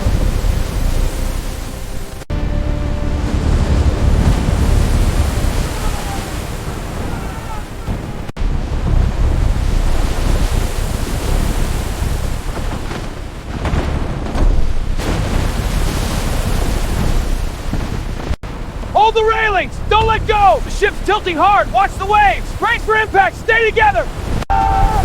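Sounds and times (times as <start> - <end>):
heavy waves surging: 0.0 - 25.0.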